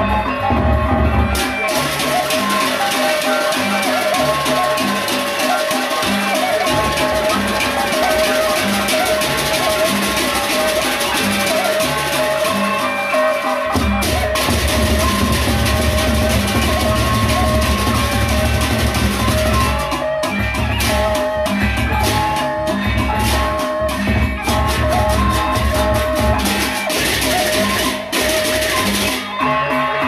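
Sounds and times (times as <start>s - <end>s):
barrel drums: 0.0s - 30.0s
wavering high melody: 0.0s - 30.0s.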